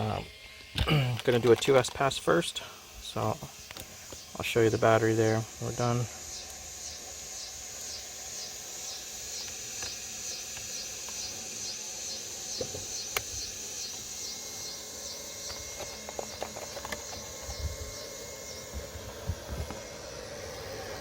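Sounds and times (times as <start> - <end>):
insects calling: 0.0 - 21.0.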